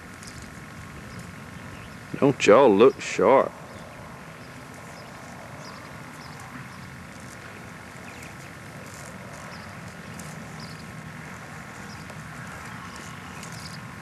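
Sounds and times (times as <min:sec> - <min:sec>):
camcorder hiss and hum: 0:00.0 - 0:14.0.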